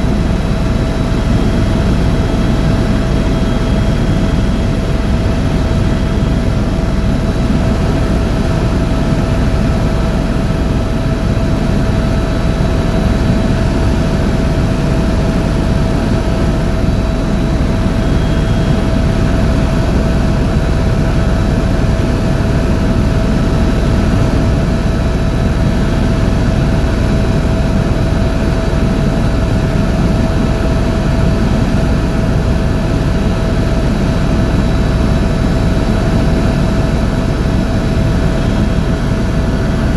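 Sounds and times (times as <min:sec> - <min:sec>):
helicopter drone and whine: 0:00.0 - 0:39.9.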